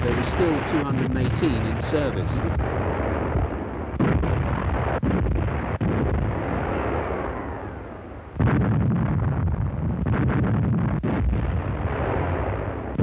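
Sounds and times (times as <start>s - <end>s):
artillery blasts with rumble: 0.0s - 13.0s.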